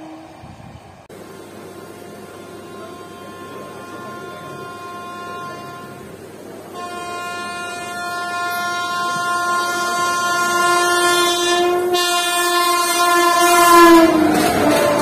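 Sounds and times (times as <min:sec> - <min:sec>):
locomotive horn blast: 0:02.4 - 0:15.0.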